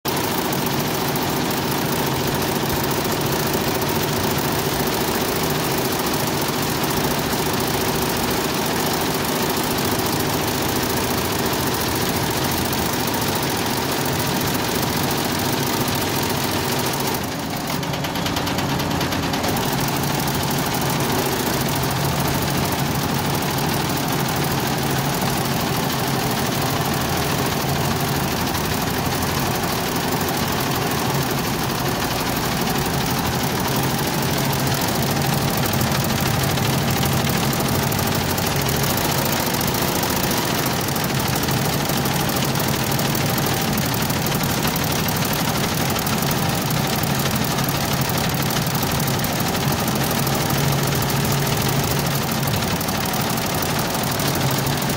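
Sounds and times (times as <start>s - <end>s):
embroidery machine stitching: 0.1s - 54.9s.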